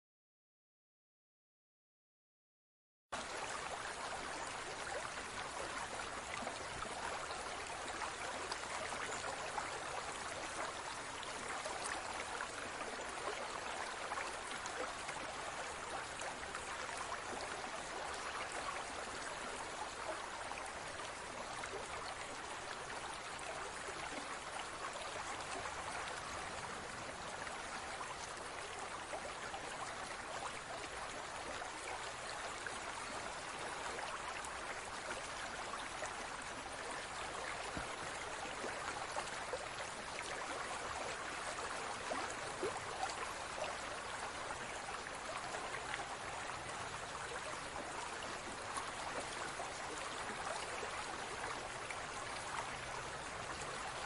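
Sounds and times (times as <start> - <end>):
water babbling: 3.2 - 54.0.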